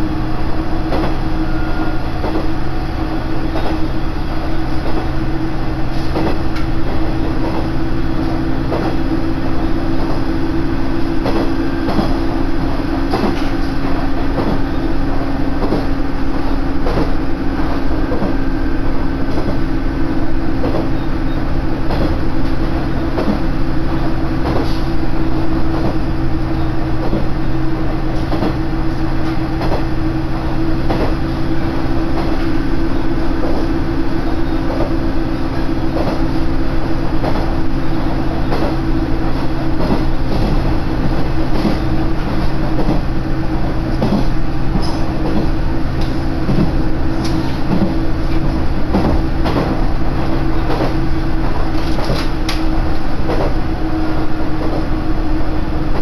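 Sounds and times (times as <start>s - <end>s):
railcar running gear drone: 0.0s - 56.0s.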